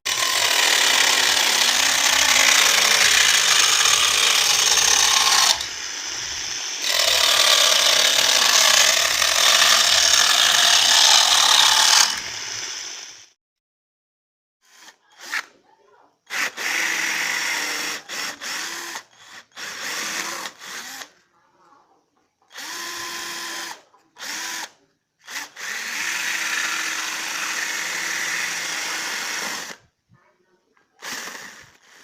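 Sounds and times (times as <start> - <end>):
mini chainsaw cutting wood: 0.1 - 13.4, 14.6 - 15.6, 16.3 - 21.2, 22.5 - 29.9, 30.9 - 32.0.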